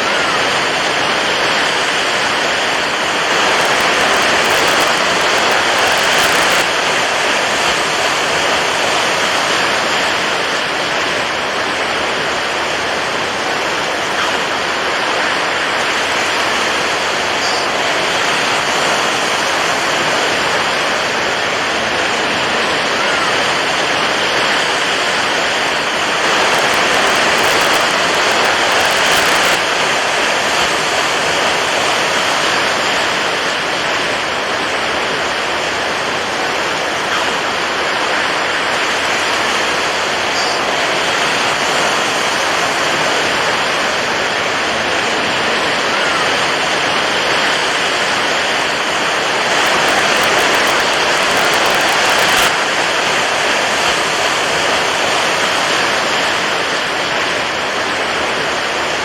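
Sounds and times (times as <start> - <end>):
water waves washing: 0.0 - 59.0.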